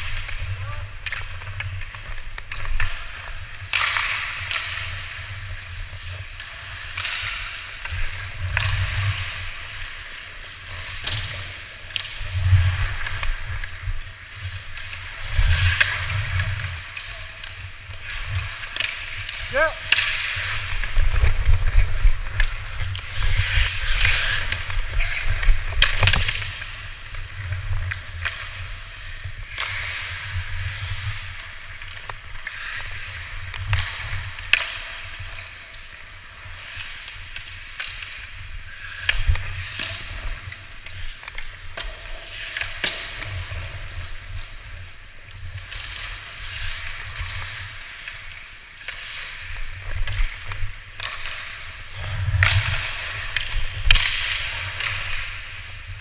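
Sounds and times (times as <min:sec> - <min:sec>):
hockey sticks and puck clicks: 0:00.0 - 0:56.0
skate blades scraping ice: 0:00.0 - 0:56.0.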